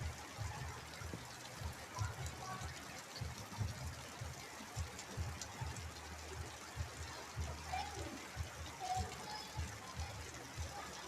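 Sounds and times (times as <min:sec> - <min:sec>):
rain dripping through roof: 0:00.0 - 0:11.0.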